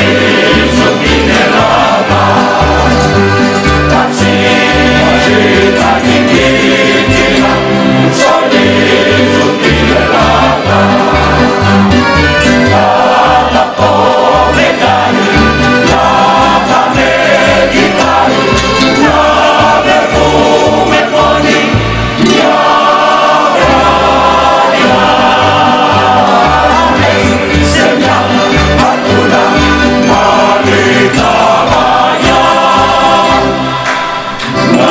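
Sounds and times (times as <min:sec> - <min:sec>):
bass line: 0:00.0 - 0:34.9
instrumental accompaniment: 0:00.0 - 0:34.9
voices singing in harmony: 0:00.0 - 0:34.9.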